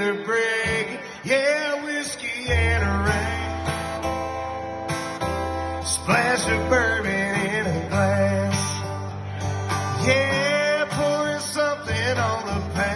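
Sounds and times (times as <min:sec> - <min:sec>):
country band playing live: 0:00.0 - 0:12.9.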